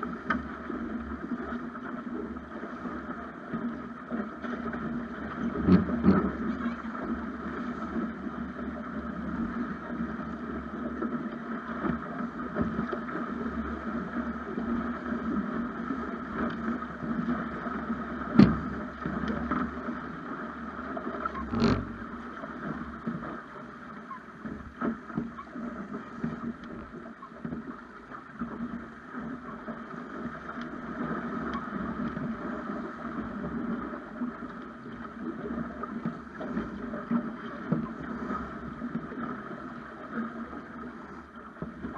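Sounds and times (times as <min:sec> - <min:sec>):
water rushing along boat hull: 0:00.0 - 0:41.9.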